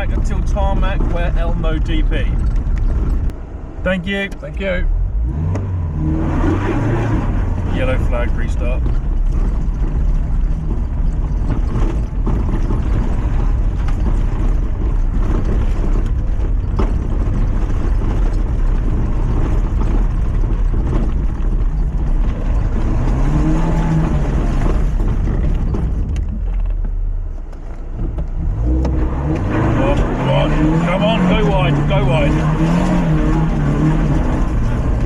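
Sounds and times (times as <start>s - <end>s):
car engine revving: 0.0s - 35.0s
road rumble: 0.0s - 35.0s.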